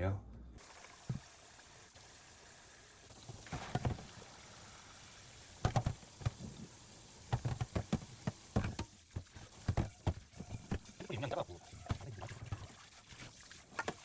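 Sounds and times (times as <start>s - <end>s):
running water: 0.6s - 14.0s.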